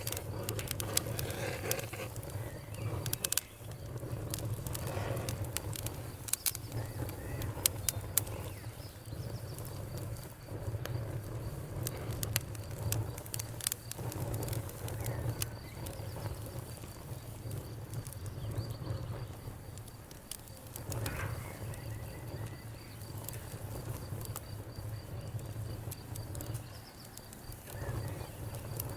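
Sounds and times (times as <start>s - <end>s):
campfire crackling and popping: 0.0s - 28.9s
crickets trilling: 0.0s - 28.9s.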